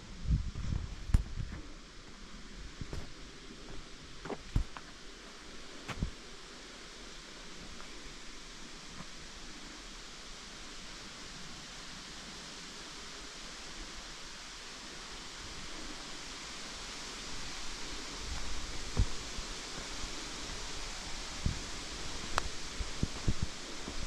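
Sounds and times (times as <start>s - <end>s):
forest rushing hiss: 0.0s - 24.0s.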